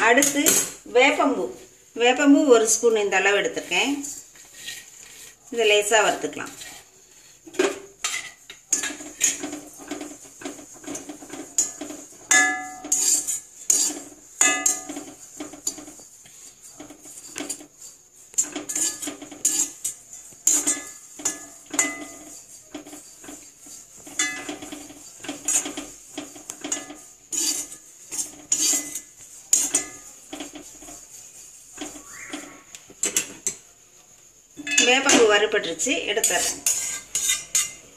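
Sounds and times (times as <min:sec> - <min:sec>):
steel spatula scraping a pan: 0:00.0 - 0:33.8, 0:34.5 - 0:37.9.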